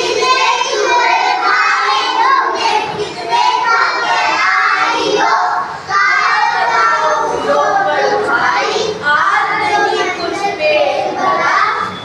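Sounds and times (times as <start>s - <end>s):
children chanting in unison: 0.0s - 11.8s.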